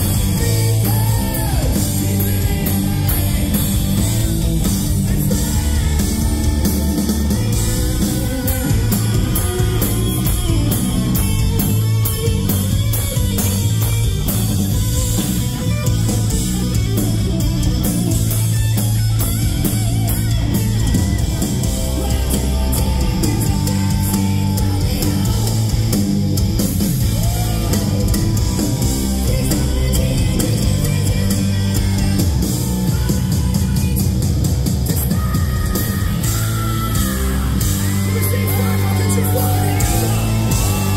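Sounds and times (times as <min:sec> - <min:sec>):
heavy metal band playing: 0:00.0 - 0:40.9.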